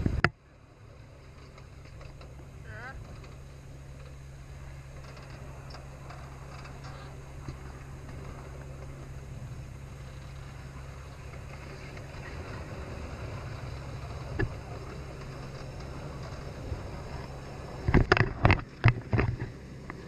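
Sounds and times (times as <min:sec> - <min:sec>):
train ride humming and rumbling: 0:00.0 - 0:20.0.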